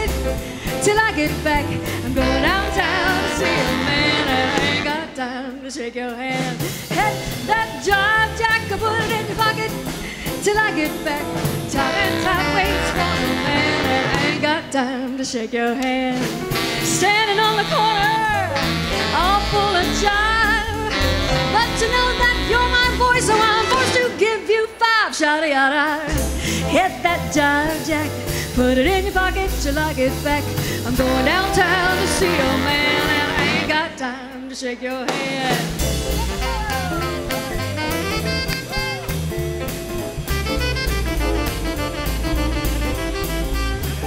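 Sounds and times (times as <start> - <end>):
woman singing with vibrato: 0.0 - 9.8, 10.4 - 38.6
swing band playing: 0.0 - 44.0.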